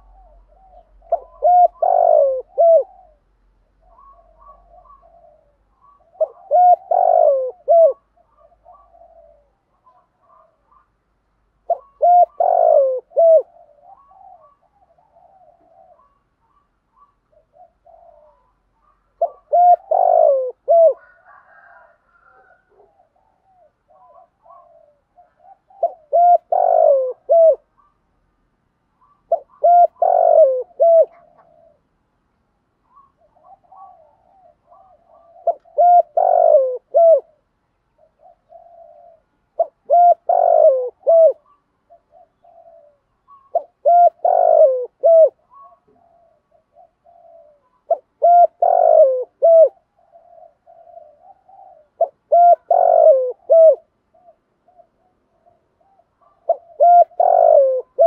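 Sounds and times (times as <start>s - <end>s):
dove cooing: 0.0s - 28.0s, 29.0s - 32.0s, 32.8s - 58.0s.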